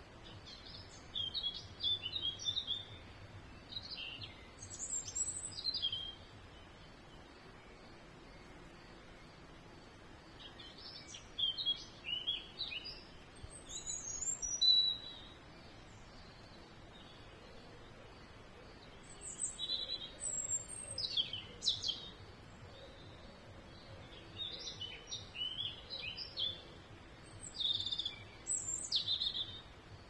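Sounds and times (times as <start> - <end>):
faint background hiss: 0.0 - 30.0
small songbirds chirping: 0.0 - 30.0.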